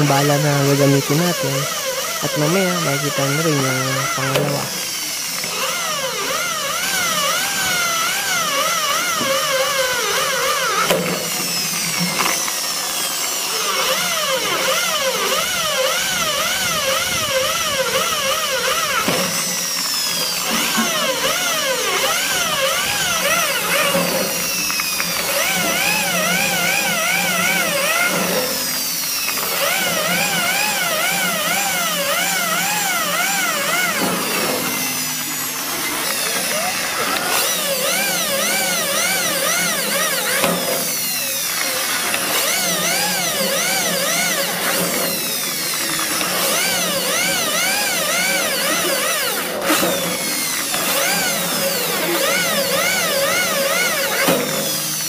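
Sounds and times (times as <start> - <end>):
electric drill cutting sheet metal: 0.0 - 55.0.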